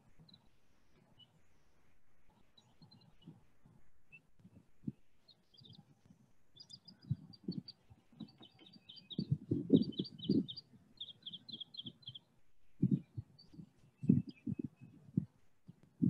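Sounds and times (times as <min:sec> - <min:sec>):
bird chirping: 0:00.0 - 0:15.8.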